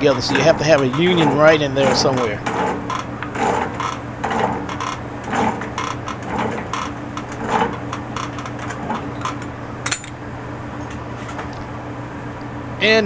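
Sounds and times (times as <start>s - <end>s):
metal threads scraping and creaking: 0.0s - 12.4s.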